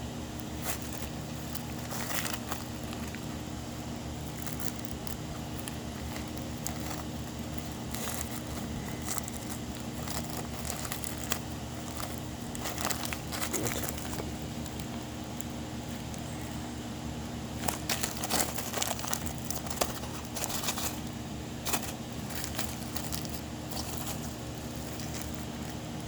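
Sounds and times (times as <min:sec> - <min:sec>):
steady low hum: 0:00.0 - 0:26.0
bag crinkling: 0:00.1 - 0:26.0.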